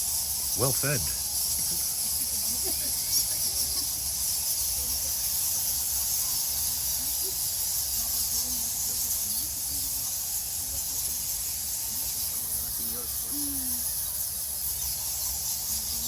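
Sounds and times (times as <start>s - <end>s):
fruit bat colony squeaking: 0.0s - 16.0s.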